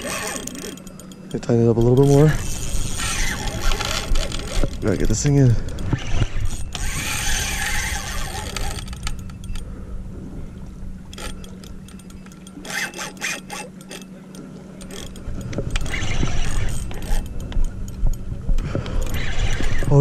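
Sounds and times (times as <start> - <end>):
fishing reel clicking and rattling: 0.0 - 9.6, 11.1 - 20.0.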